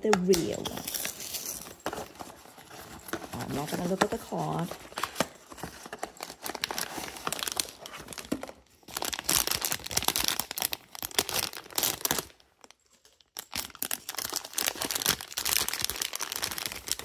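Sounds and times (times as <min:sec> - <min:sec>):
foil pouch tearing and crinkling: 0:00.5 - 0:08.2, 0:08.9 - 0:17.0.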